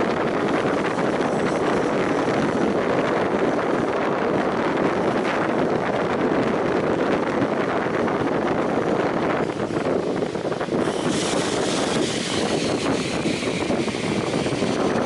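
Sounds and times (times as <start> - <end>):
train coaches running on rails: 0.0 - 15.0
wind rushing over microphone: 0.0 - 15.0.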